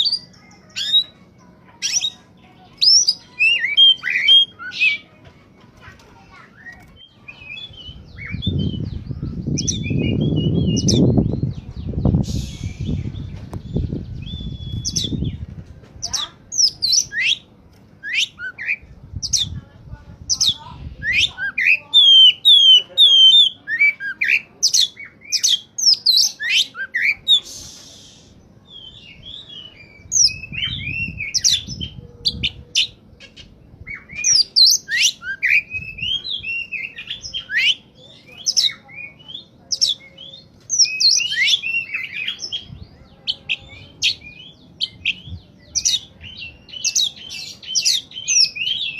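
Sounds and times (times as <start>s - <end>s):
bird singing whistles and chirps: 2.8s - 5.0s, 6.6s - 15.5s, 16.6s - 17.4s, 18.0s - 19.5s, 20.4s - 48.9s.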